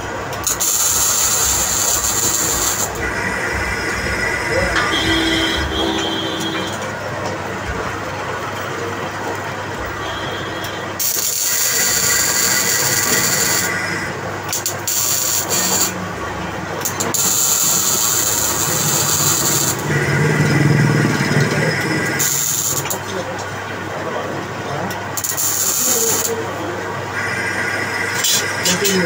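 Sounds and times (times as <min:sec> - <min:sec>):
metal lathe humming: 0:00.0 - 0:29.0.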